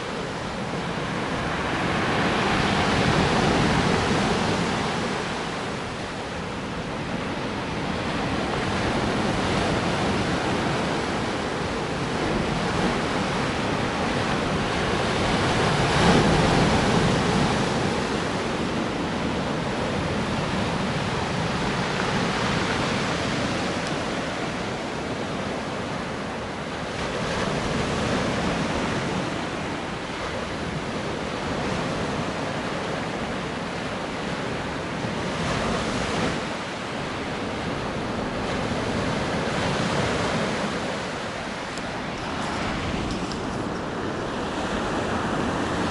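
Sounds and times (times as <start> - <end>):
waves breaking on shore: 0.0 - 45.9.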